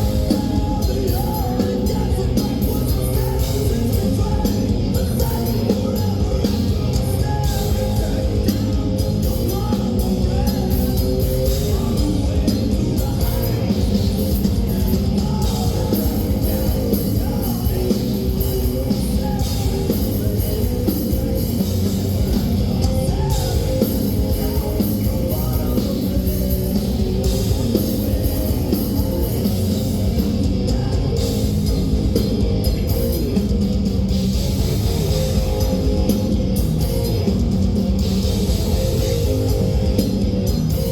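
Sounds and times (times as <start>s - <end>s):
death metal band playing: 0.0s - 40.9s.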